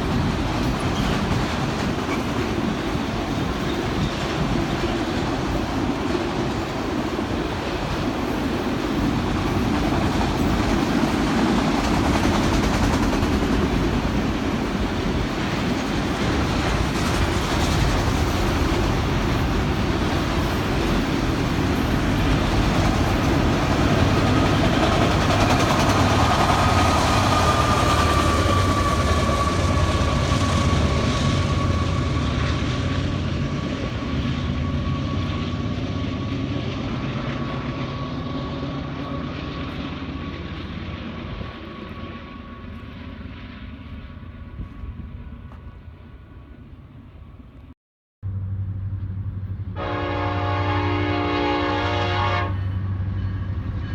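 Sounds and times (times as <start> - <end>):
freight train rumble and rattle: 0.0 - 47.7, 48.3 - 53.9.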